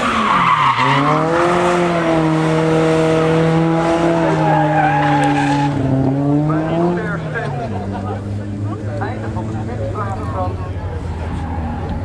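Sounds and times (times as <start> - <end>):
car engine at high revs: 0.0 - 12.0
tyres skidding and squealing: 0.0 - 12.0.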